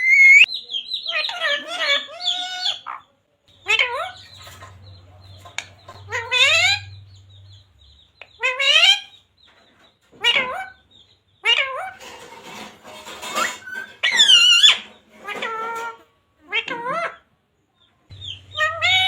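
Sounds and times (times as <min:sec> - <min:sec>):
parakeet calls: 0:00.0 - 0:09.2, 0:10.1 - 0:12.0, 0:13.2 - 0:17.3, 0:18.1 - 0:19.0.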